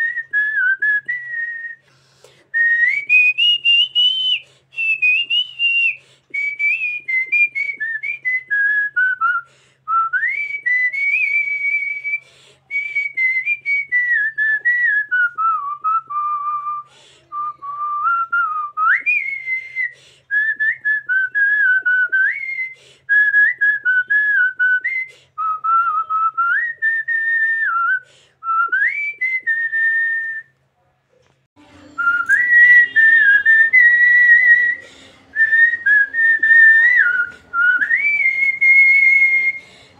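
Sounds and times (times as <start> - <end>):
woman whistling a melody: 0.0 - 1.8, 2.5 - 30.5, 32.0 - 39.8.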